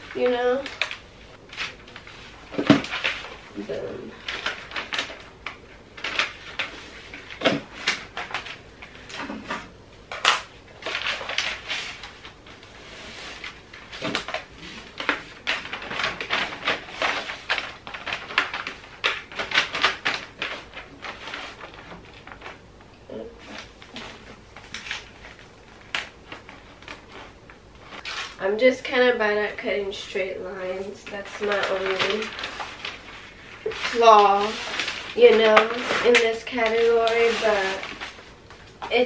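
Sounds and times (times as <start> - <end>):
wrapping paper rustling and crinkling: 0.0 - 28.7, 29.4 - 39.0.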